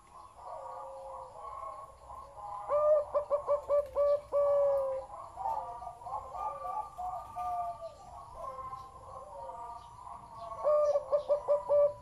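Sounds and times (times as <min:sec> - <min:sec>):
dove cooing: 0:00.0 - 0:12.0
soft bird calls: 0:00.0 - 0:12.0.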